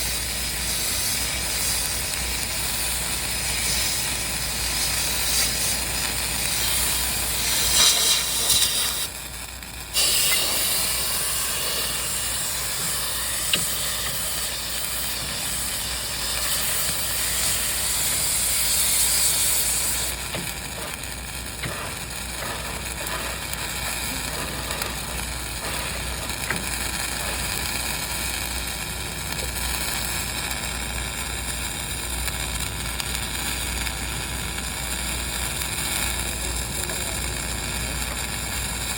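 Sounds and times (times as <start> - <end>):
welding arc crackling hiss: 0.0 - 38.9.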